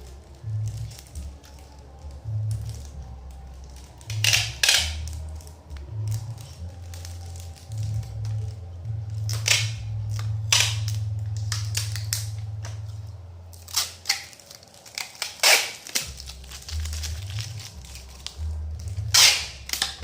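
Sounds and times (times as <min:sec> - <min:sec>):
bass line of background music: 0:00.0 - 0:20.0
packing material crinkling and tearing: 0:00.0 - 0:20.0.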